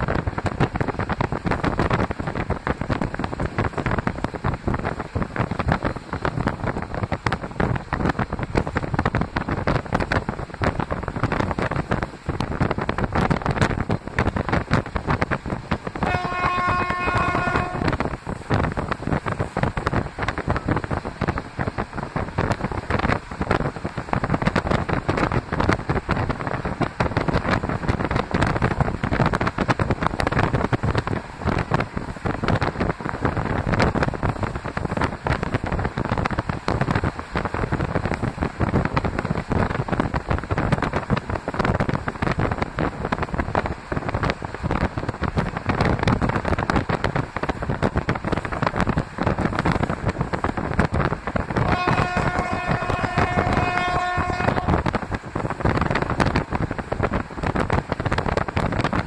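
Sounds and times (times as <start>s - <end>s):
train running noise: 0.0s - 59.0s
wind buffeting microphone: 0.0s - 59.0s.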